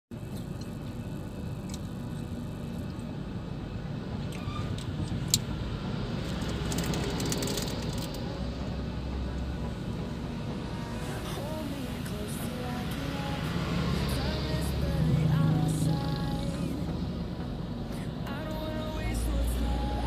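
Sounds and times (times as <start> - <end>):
car engine rumble: 0.1 - 20.0
trucks passing with hiss: 0.2 - 20.0.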